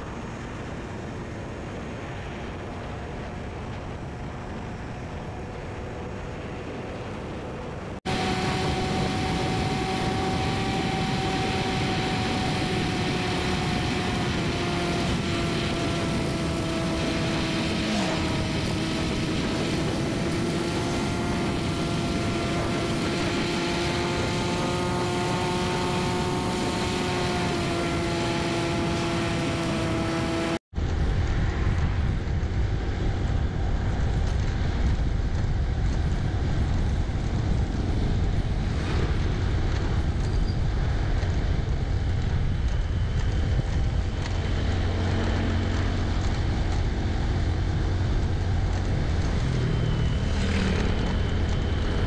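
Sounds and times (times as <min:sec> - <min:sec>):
low noisy riding sound: 0:00.0 - 0:52.0
motorcycle engine whine: 0:00.0 - 0:52.0.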